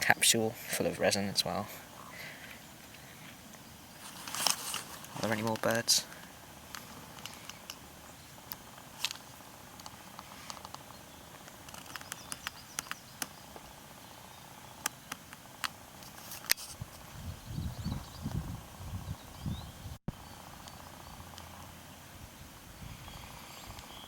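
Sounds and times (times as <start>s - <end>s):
distant birds chirping: 0.0s - 24.0s
outdoor background noise: 0.0s - 24.0s.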